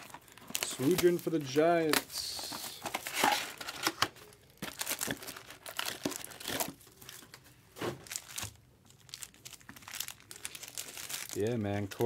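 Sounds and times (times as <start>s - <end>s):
foil wrappers crinkling and tearing: 0.0s - 7.4s, 8.0s - 12.0s.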